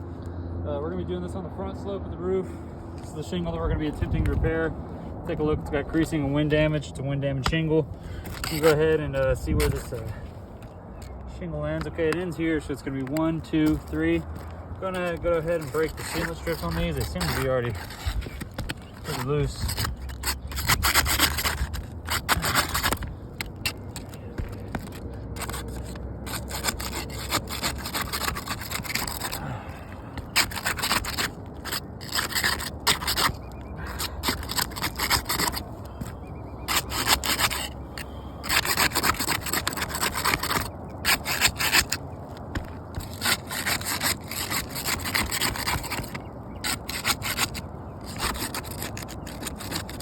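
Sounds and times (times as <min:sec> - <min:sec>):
tool scraping under shingles: 0:02.4 - 0:50.0.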